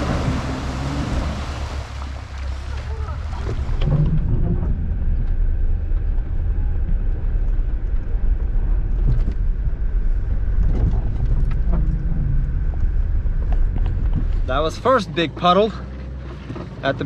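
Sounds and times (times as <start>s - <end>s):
off-road vehicle engine: 0.0s - 17.0s.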